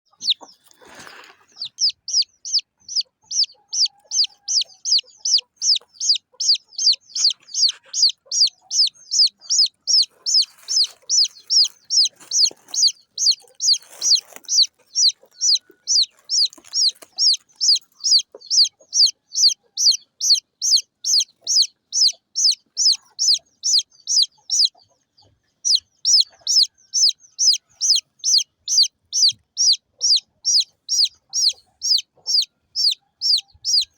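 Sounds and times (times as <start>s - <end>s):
baby chick peeping: 0.1s - 33.9s.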